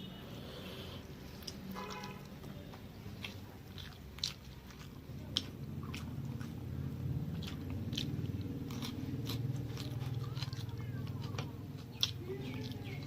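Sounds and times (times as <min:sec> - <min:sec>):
person chewing food: 0:00.3 - 0:13.0.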